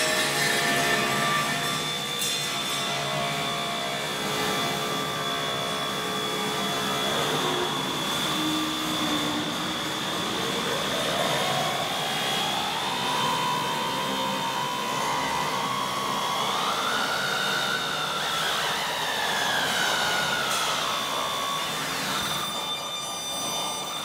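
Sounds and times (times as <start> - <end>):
rushing noise drone: 0.0 - 24.0.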